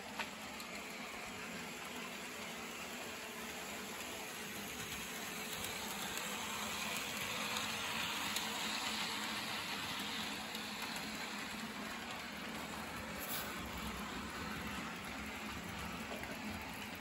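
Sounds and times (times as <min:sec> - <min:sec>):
model train whirring and rattling: 0:00.0 - 0:17.0.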